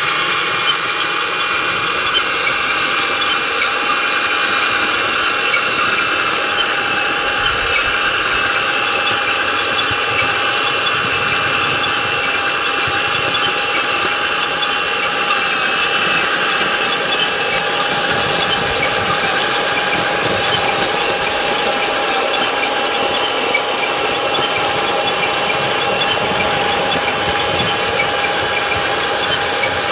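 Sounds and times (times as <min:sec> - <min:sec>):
toy motor whirring and whining: 0:00.0 - 0:29.9.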